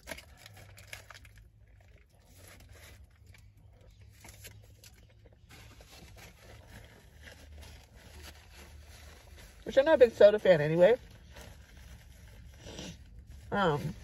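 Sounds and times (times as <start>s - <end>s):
low steady hum: 0.0s - 14.0s
paper wrapper rustling: 0.0s - 14.0s.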